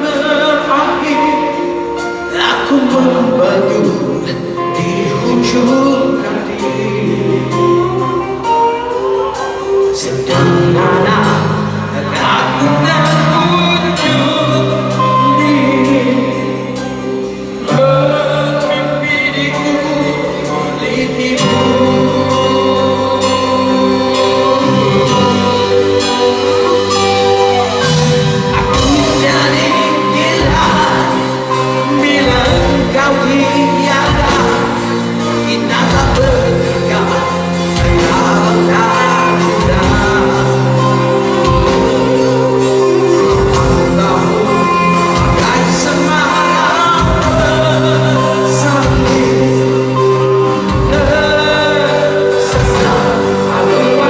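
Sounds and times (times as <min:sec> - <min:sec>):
man singing lead vocal: 0:00.0 - 0:54.0
rock band playing live: 0:00.0 - 0:54.0.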